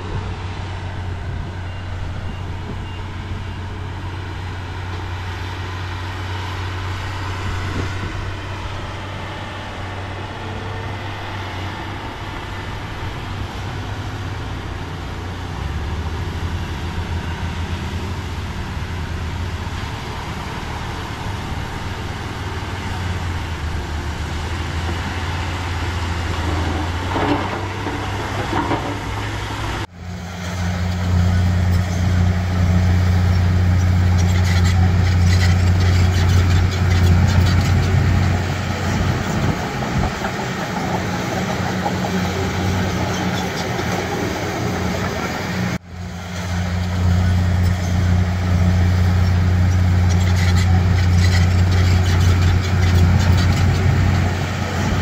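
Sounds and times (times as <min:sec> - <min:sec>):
heavy machine engine droning: 0:00.0 - 0:55.0.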